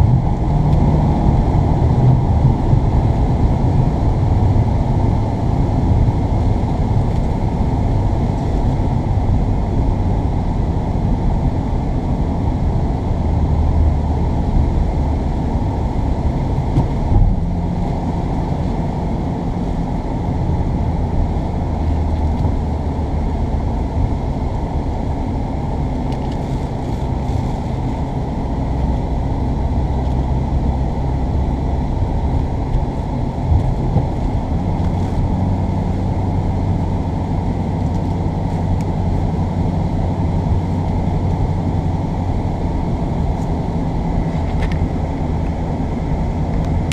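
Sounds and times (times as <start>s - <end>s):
motor vehicle running: 0.0s - 46.9s.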